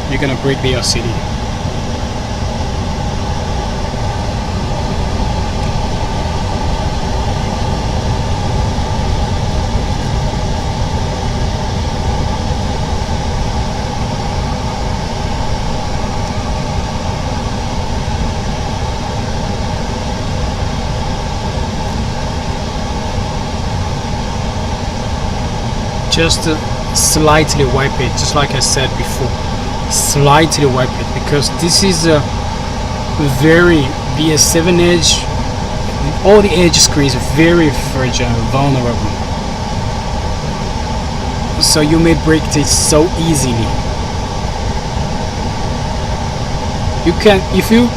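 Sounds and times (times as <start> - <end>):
fan hiss and hum: 0.0 - 47.9.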